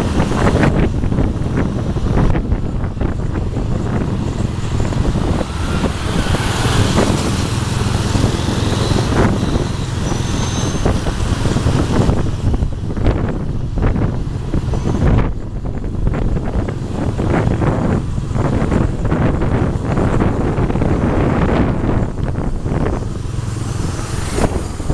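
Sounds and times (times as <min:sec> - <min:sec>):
road traffic: 0:00.0 - 0:24.9
wind on microphone: 0:00.0 - 0:24.9.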